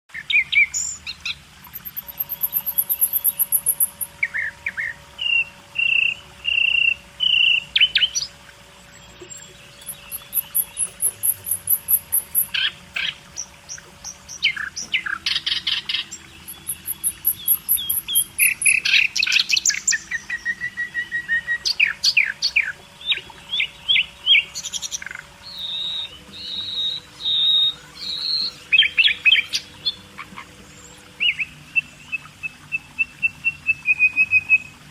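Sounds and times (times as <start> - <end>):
caged birds chirping: 0.1 - 34.8.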